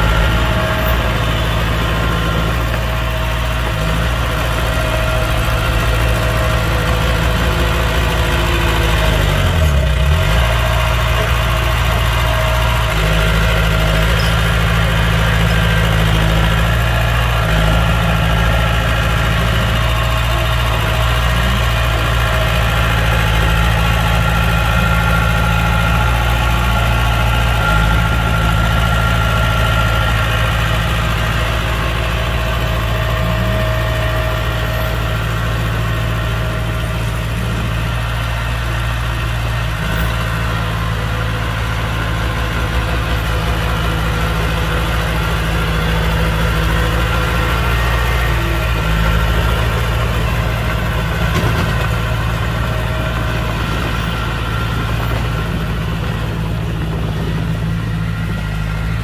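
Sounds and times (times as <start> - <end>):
heavy diesel engine idling: 0.0 - 59.0.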